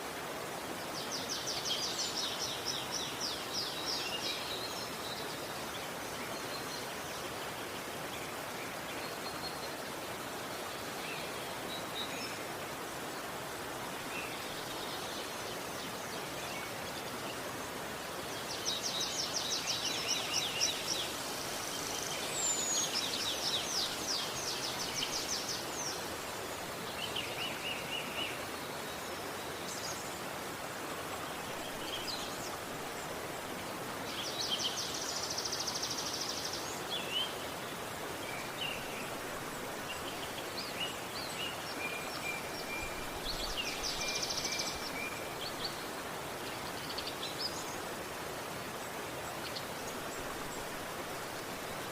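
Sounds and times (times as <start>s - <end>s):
river flowing: 0.0s - 51.9s.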